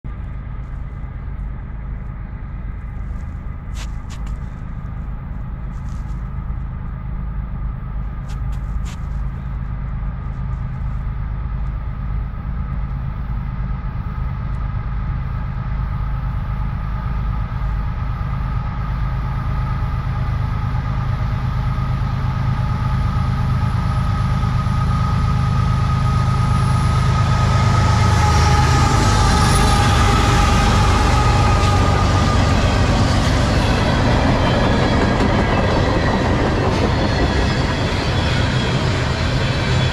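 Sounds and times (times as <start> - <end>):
diesel locomotive rumble and whine: 0.0 - 39.9.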